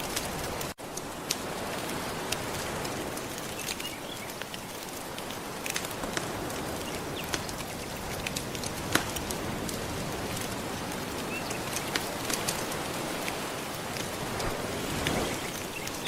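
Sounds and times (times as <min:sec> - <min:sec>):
gentle surf: 0:00.0 - 0:16.0
wood fire crackling: 0:00.0 - 0:16.0.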